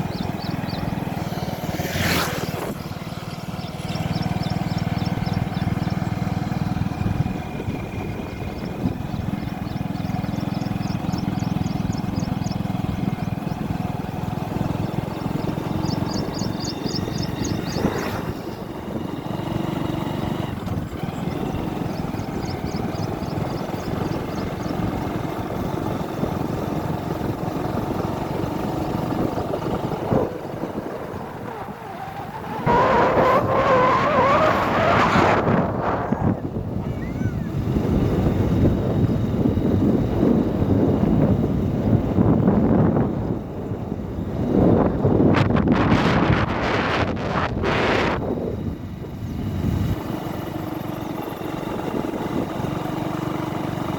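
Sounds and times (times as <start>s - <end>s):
vehicle engine rumbling: 0.0s - 53.9s.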